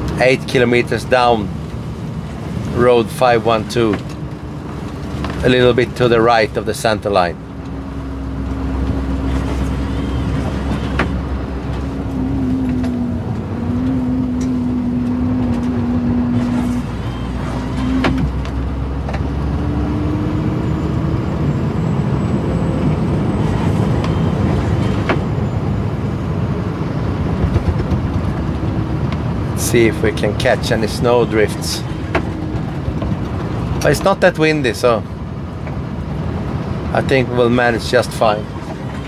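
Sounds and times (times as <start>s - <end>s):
road and plow noise: 0.0s - 39.0s
truck engine running: 0.0s - 39.0s.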